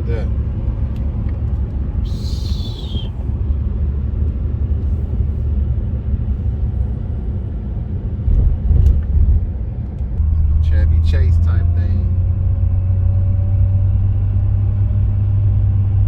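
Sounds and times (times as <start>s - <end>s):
car engine rumbling: 0.0s - 16.0s
road noise: 0.0s - 16.0s.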